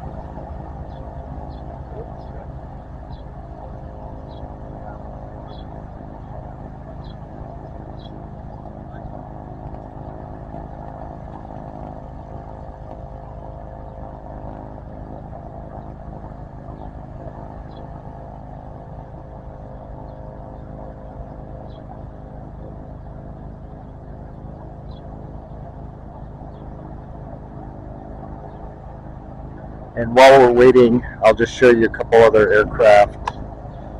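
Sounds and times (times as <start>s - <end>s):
turboprop engine idling: 0.0s - 33.9s.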